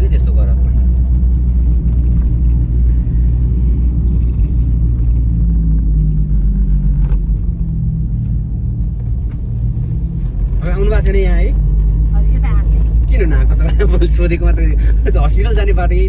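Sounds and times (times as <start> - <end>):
car driving engine and road noise: 0.0 - 16.0.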